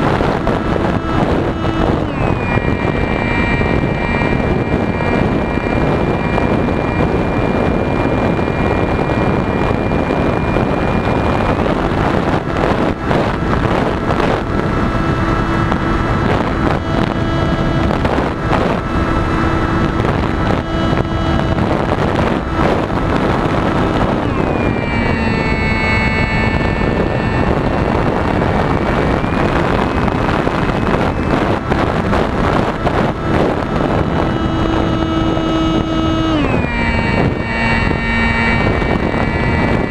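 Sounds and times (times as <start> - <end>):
model plane motor whining: 0.0 - 39.9
wind noise: 0.0 - 39.9.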